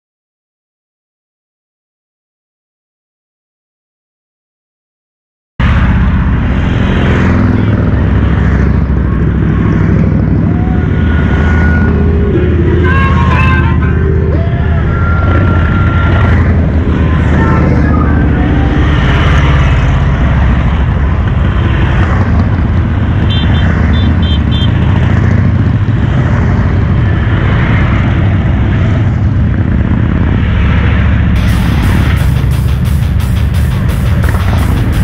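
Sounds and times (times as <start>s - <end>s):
motorcycles rumbling past: 5.7s - 35.0s.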